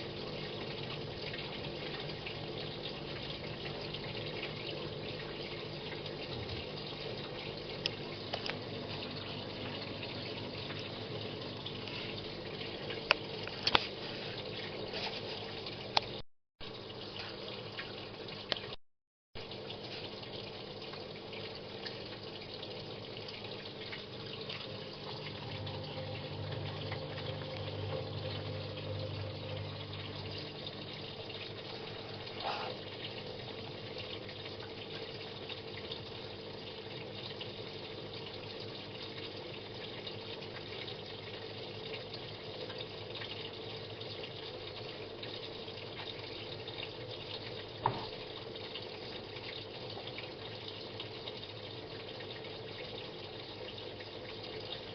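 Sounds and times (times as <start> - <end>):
washing machine hum: 0.0 - 18.8, 19.4 - 54.9
water running into tub: 0.0 - 18.8, 19.4 - 54.9.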